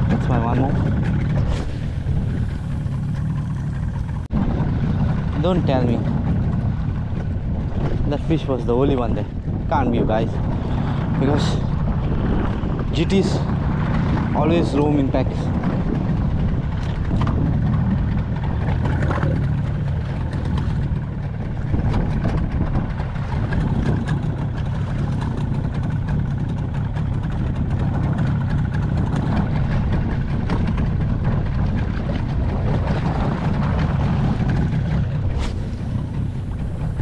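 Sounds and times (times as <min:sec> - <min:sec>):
water sloshing around boat: 0:00.0 - 0:37.0
wind buffeting microphone: 0:00.0 - 0:37.0.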